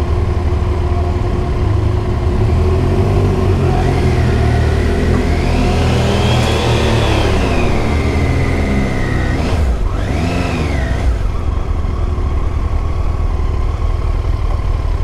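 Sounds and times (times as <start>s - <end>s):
motorcycle engine revving: 0.0s - 15.0s
wind and road noise rumble: 0.0s - 15.0s.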